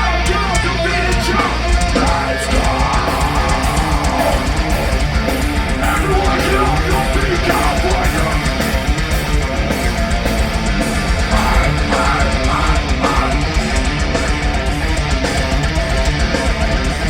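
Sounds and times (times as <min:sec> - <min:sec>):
live heavy metal band: 0:00.0 - 0:17.0.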